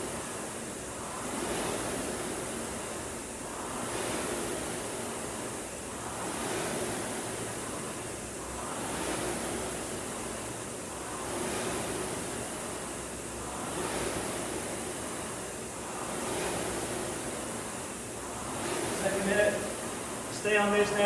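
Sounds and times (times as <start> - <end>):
rowing machine flywheel whooshing: 0.0 - 21.0.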